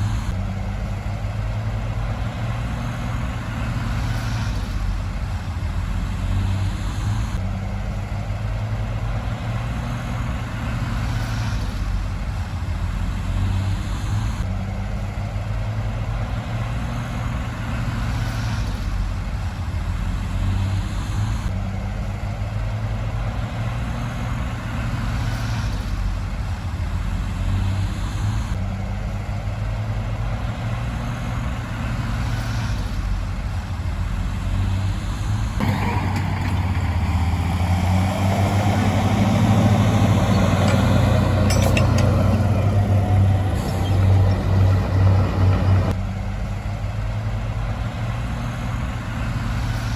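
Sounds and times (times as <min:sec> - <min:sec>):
bulldozer diesel engine: 0:00.0 - 0:49.9.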